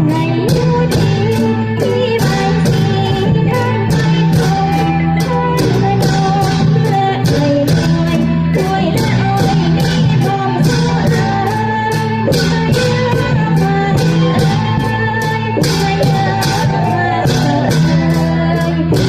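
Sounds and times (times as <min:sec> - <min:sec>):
percussion beat: 0:00.0 - 0:19.0
person singing: 0:00.0 - 0:19.0.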